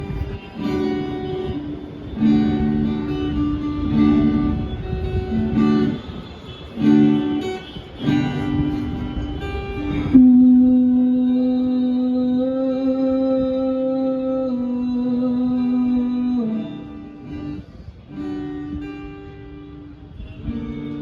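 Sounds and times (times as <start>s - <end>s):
guitar strumming chords: 0.0s - 21.0s.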